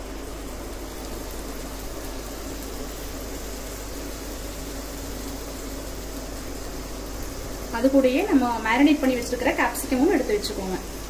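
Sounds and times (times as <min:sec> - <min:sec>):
cheese frying in butter: 0:00.0 - 0:11.0.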